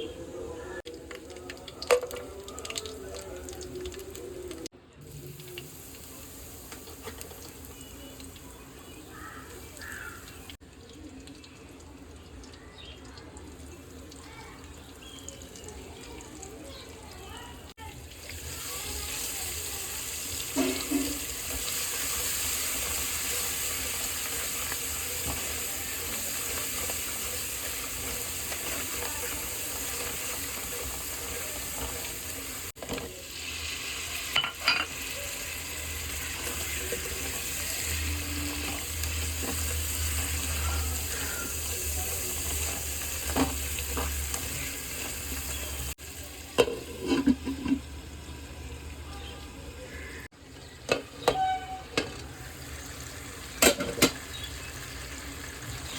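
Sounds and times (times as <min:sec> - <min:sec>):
food sizzling in hot oil: 0:00.9 - 0:10.6, 0:13.4 - 0:49.0, 0:51.1 - 0:55.9.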